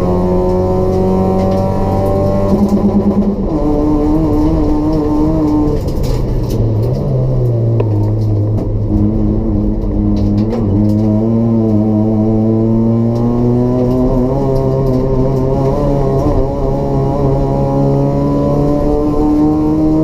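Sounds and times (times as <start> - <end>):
race car engine running hard: 0.0 - 20.0.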